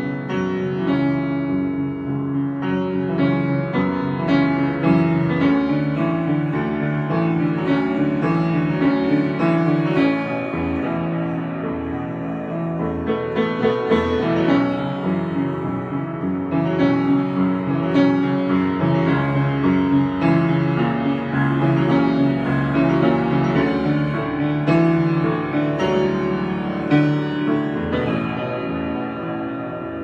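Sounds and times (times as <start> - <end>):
solo piano improvisation: 0.0 - 30.0.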